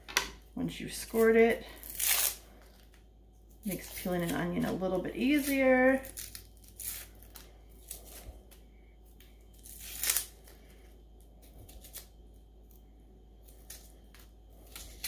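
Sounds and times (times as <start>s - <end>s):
onion skin crackling: 0.9s - 15.0s.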